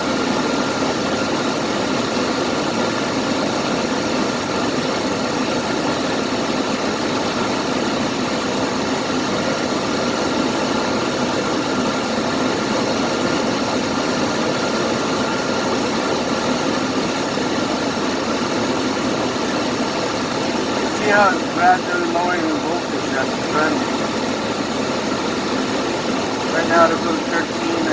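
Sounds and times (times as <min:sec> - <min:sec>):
engine idling: 0:00.0 - 0:27.9.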